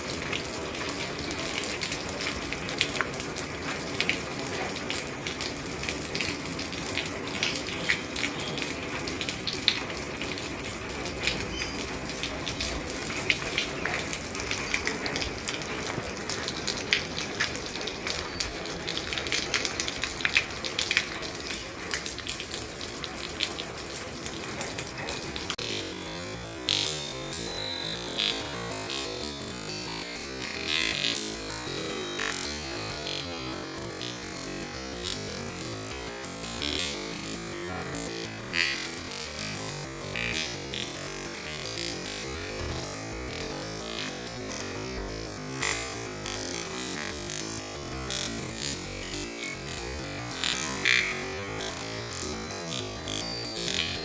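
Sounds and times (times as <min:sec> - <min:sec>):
heavy rain on a roof: 0:00.0 - 0:54.0
rain drop taps: 0:00.0 - 0:54.0.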